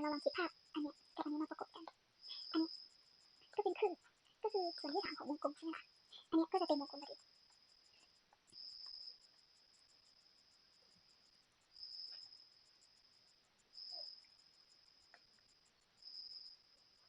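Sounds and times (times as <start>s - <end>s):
fast insect ticking: 0.0s - 17.0s
insects trilling: 0.0s - 17.0s.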